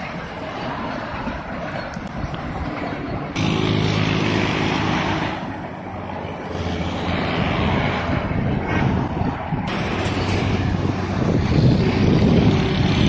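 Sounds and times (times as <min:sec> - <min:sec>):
diesel locomotive engine droning: 0:00.0 - 0:13.0
outdoor noise: 0:00.0 - 0:13.0.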